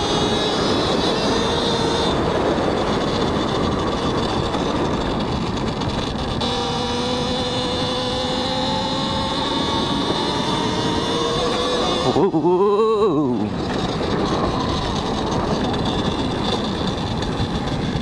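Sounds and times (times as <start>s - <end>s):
electric motor whining: 0.0s - 18.0s
tyre noise: 0.0s - 18.0s
wind noise: 0.0s - 18.0s.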